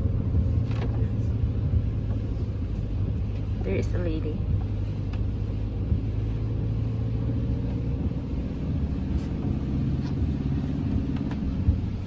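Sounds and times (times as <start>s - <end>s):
road noise: 0.0s - 12.0s
van engine rumble: 0.0s - 12.0s.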